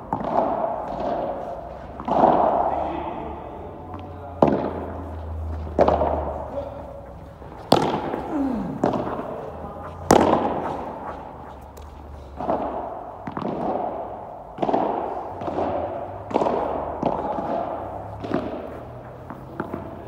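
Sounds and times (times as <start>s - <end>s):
ball hits echoing in hall: 0.0s - 20.0s.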